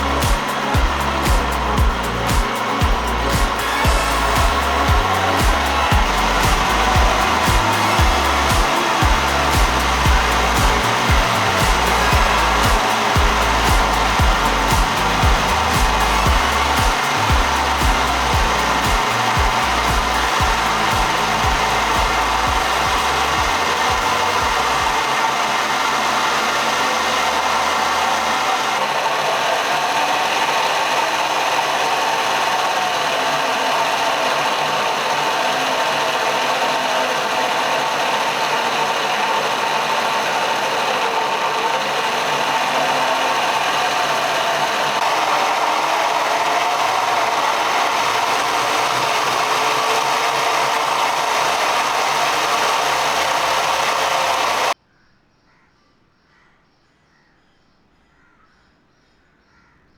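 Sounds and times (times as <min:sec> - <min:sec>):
wood chipper running: 0:00.0 - 0:54.8.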